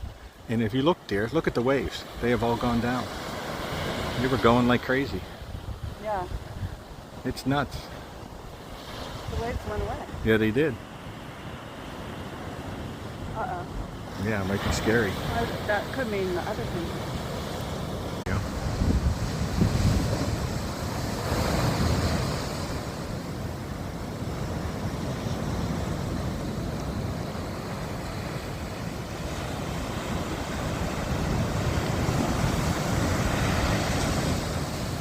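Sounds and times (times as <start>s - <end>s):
sea surf washing ashore: 0.0s - 35.0s
wind buffeting microphone: 2.2s - 35.0s.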